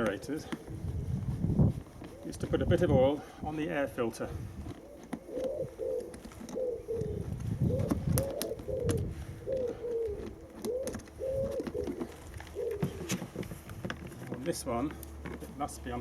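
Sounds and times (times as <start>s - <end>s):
pigeon cooing: 0.0s - 14.3s.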